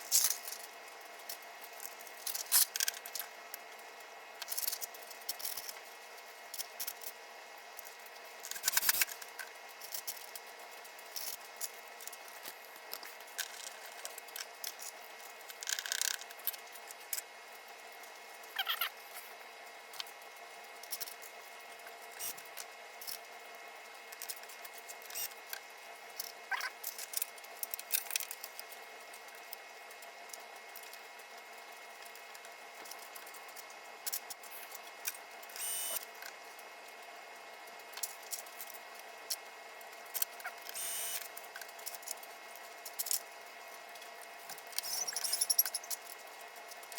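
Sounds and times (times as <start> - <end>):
small parts clicking and rattling: 0.0 - 3.6, 4.4 - 17.3, 19.9 - 21.4, 24.1 - 31.2, 31.9 - 36.4, 37.8 - 46.9.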